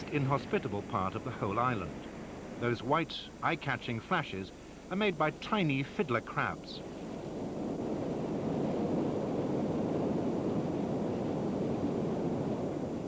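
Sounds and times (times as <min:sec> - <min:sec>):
low rushing noise: 0:00.0 - 0:10.8.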